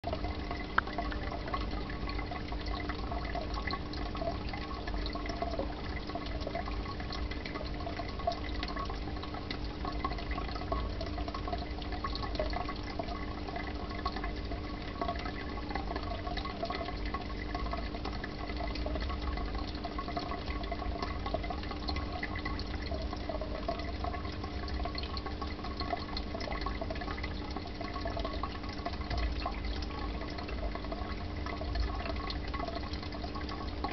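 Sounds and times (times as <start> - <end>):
low pump hum: 0.0 - 33.9
water trickling and bubbling: 0.0 - 33.9.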